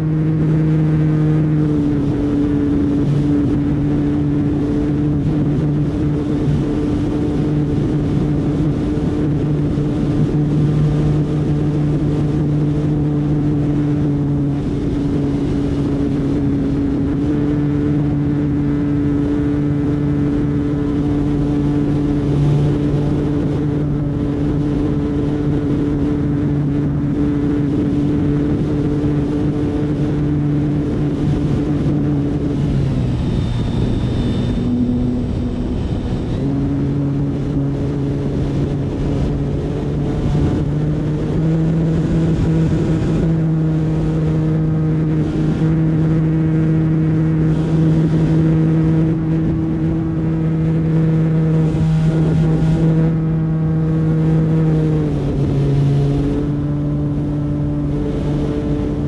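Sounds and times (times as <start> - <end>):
model airplane propeller drone: 0.0 - 59.0
thin high whine: 0.0 - 59.0
wind rushing over microphone: 0.0 - 59.0.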